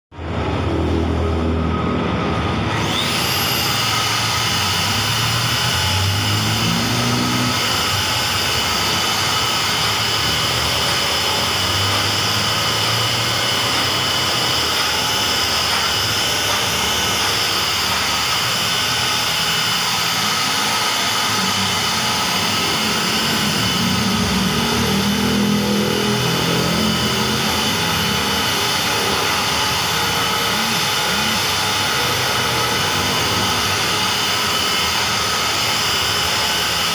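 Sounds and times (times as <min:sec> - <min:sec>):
electric car polisher whining: 0:00.2 - 0:36.9.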